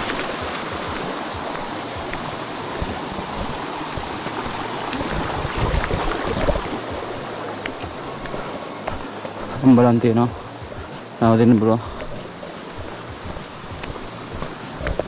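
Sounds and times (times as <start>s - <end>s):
mountain stream flowing over rocks: 0.0s - 15.0s.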